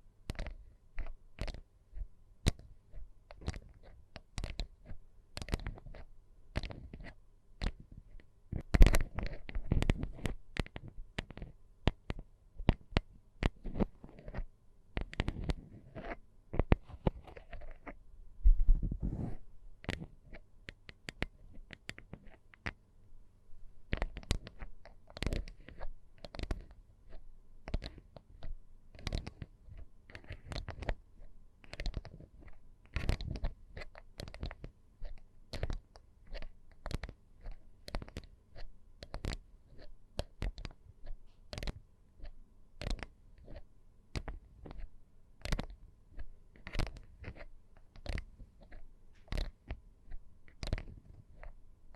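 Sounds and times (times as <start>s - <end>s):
crackly rubbing: 0.3s - 18.0s, 18.7s - 22.8s, 23.8s - 51.6s.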